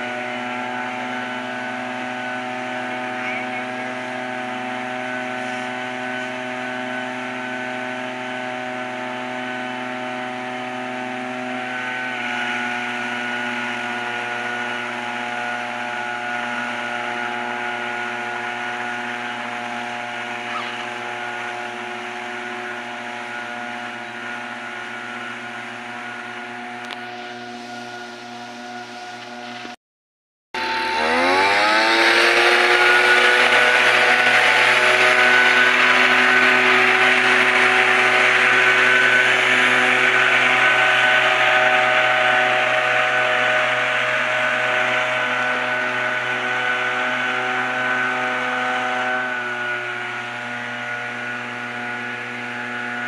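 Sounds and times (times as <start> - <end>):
small engine running: 0.0 - 29.8, 30.6 - 53.0.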